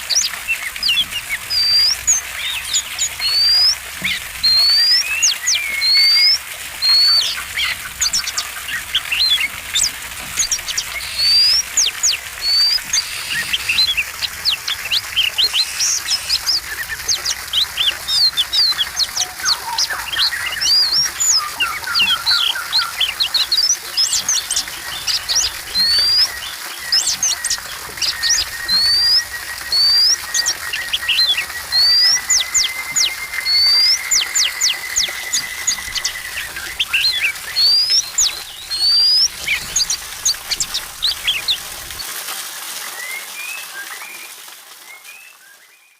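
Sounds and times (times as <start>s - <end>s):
bird singing whistled notes: 0.1s - 9.8s, 10.4s - 41.6s, 43.0s - 45.9s.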